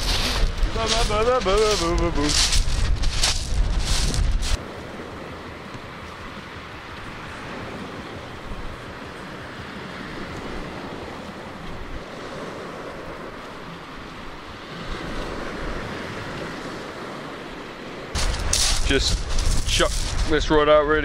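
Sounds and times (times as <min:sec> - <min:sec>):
waves breaking on shingle beach: 0:00.0 - 0:20.8
wind rumbling on microphone: 0:00.0 - 0:21.0.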